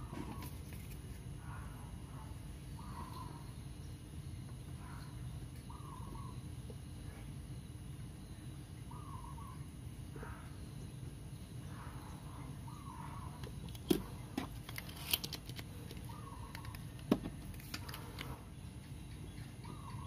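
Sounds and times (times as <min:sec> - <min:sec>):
steady low hum: 0:00.0 - 0:20.0
faint chirping: 0:01.4 - 0:14.4, 0:15.7 - 0:17.0, 0:17.8 - 0:20.0.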